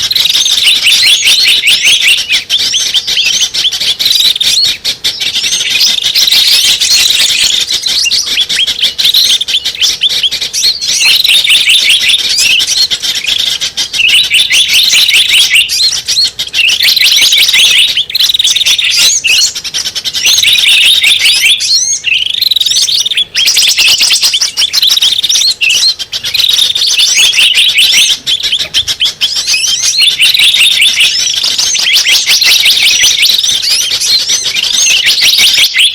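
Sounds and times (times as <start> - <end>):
small birds chirping chorus: 0.0 - 35.9.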